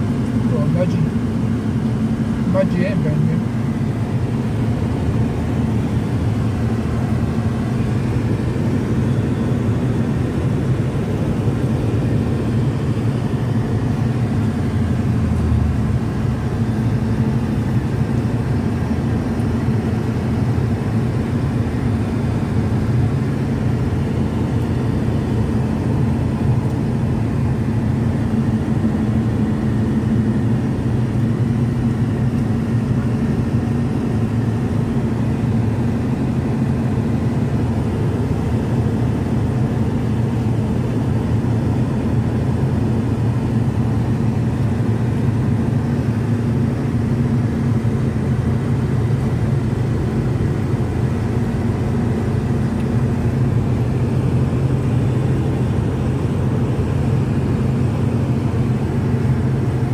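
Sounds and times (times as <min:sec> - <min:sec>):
car interior road drone: 0:00.0 - 0:59.9.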